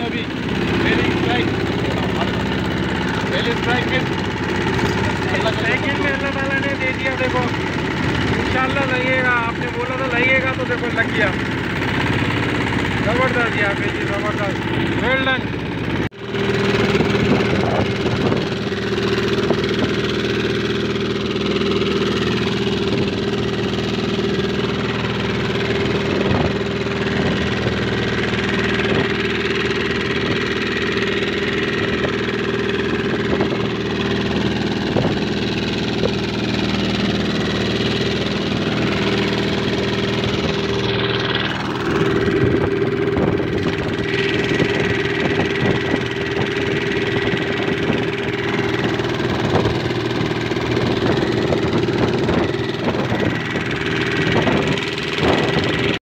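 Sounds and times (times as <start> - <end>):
boat engine droning: 0.0 - 56.0
water rushing along hull: 0.0 - 56.0.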